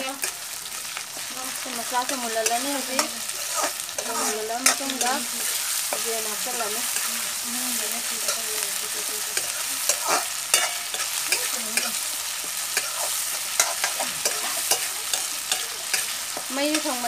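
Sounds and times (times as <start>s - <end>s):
frying oil sizzling: 0.0s - 17.0s
spoon scraping in metal wok: 0.2s - 17.0s.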